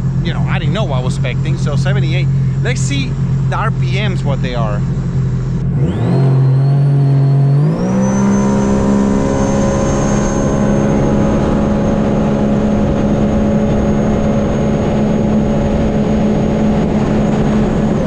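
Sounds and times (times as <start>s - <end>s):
high whine: 0.0s - 18.0s
jet ski engine at high revs: 0.0s - 18.0s.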